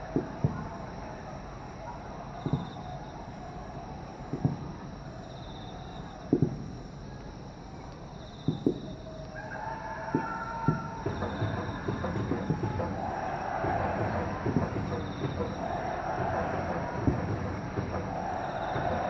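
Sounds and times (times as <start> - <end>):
distant firework booms: 0.0 - 1.2, 2.2 - 6.9, 8.3 - 9.1, 10.1 - 19.0.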